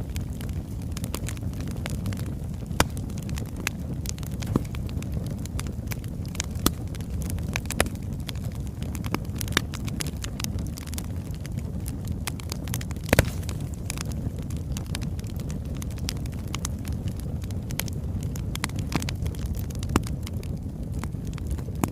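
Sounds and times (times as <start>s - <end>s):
fire crackling and popping: 0.0s - 21.9s
fire rumbling: 0.0s - 21.9s.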